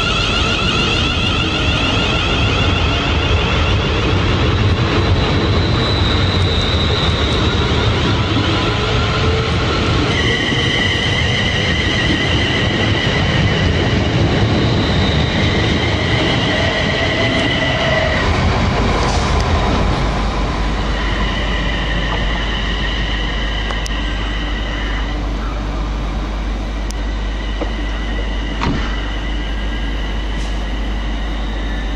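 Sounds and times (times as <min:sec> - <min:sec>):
high two-tone whine: 0:00.0 - 0:31.9
train wheels rushing on rail: 0:00.0 - 0:31.9.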